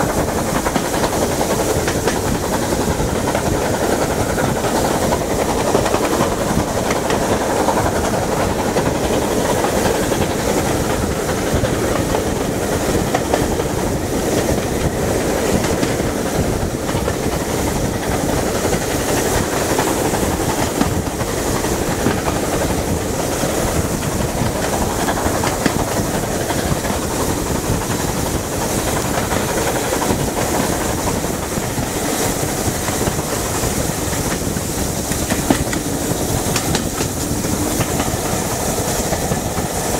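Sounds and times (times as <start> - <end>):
steam locomotives working: 0.0 - 39.9
train wheel and track noise: 0.0 - 39.9
wind noise: 0.0 - 39.9.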